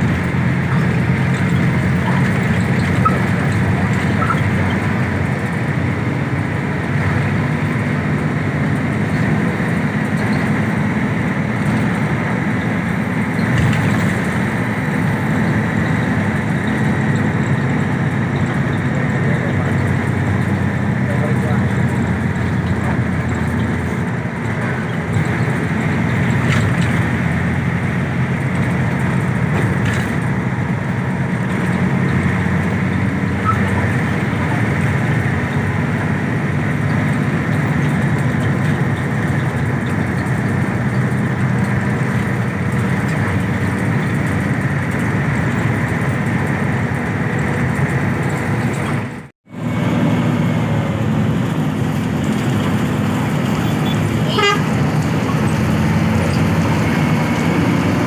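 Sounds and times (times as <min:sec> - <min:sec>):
bus engine: 0:00.0 - 0:58.0
road noise: 0:00.0 - 0:58.0.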